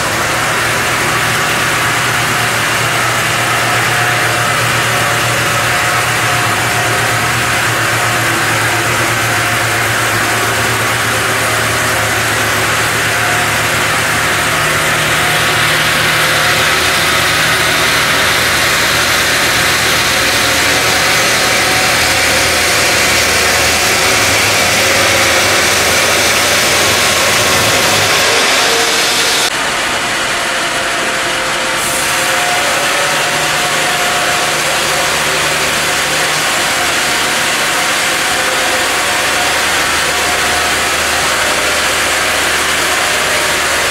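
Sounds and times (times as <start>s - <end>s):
bandsaw blade cutting wood: 0.0s - 29.5s, 31.8s - 43.9s.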